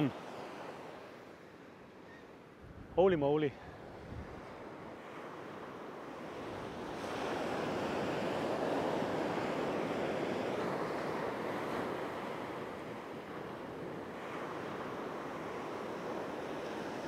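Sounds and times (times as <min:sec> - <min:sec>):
sea surf washing ashore: 0:00.0 - 0:17.0
wind: 0:00.0 - 0:17.0.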